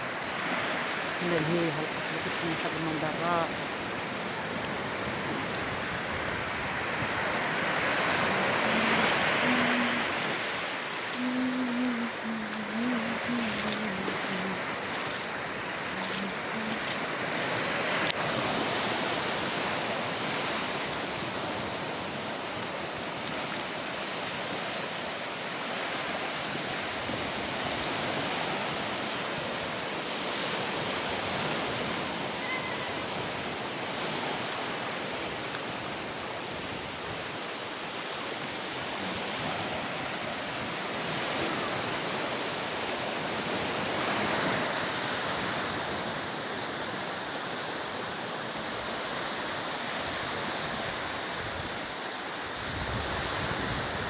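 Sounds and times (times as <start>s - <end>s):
sea surf breaking ashore: 0.0s - 54.0s.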